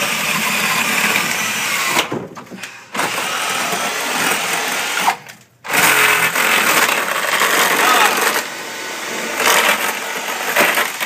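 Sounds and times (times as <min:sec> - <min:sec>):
power drill boring into wood: 0:00.0 - 0:02.1, 0:02.9 - 0:11.0.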